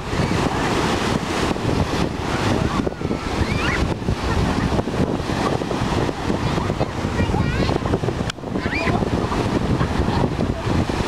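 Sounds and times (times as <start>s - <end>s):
surf breaking on shore: 0.0s - 11.0s
wind buffeting microphone: 0.0s - 11.0s.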